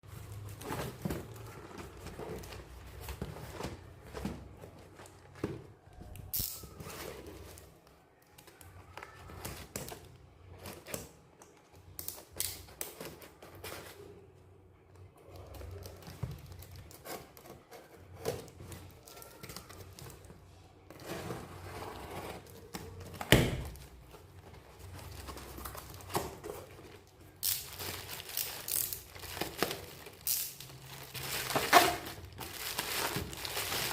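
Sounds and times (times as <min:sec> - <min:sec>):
plastic and paper crinkling: 0:00.1 - 0:10.9, 0:15.2 - 0:33.9.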